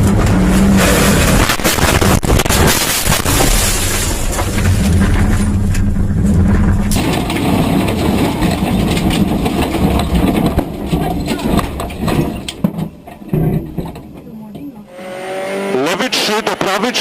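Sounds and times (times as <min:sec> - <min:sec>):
rally car engine running: 0:00.0 - 0:17.0
road and tyre noise: 0:00.0 - 0:17.0.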